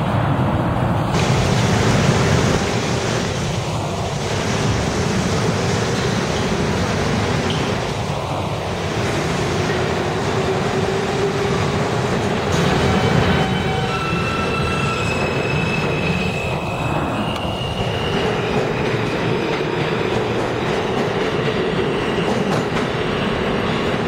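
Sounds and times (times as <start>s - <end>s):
subway train wheels on rails: 0.0s - 24.0s.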